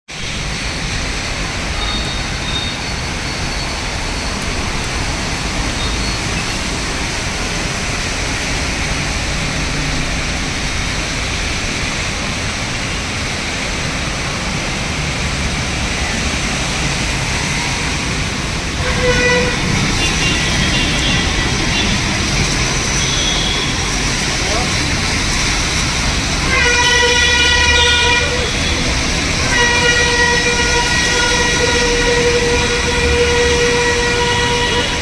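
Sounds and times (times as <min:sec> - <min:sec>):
heavy rain on road: 0:00.1 - 0:35.0
vehicles driving on wet road: 0:00.1 - 0:35.0.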